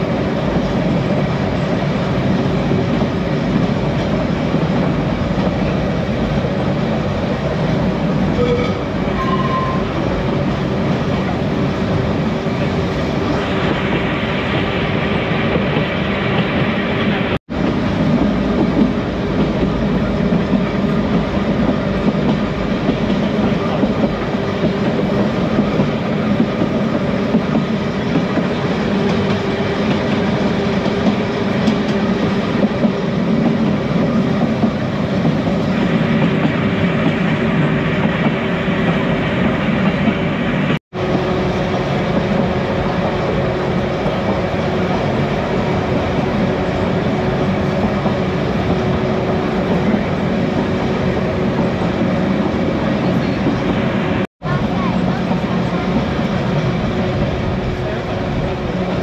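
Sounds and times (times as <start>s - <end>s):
tram wheels rumbling on rail: 0.0s - 59.0s.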